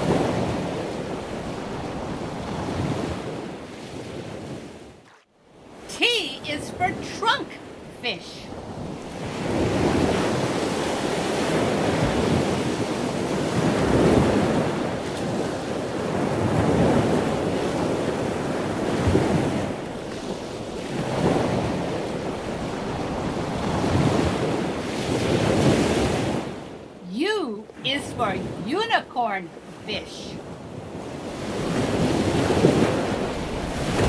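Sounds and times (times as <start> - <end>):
rushing surf-like water: 0.0 - 34.0.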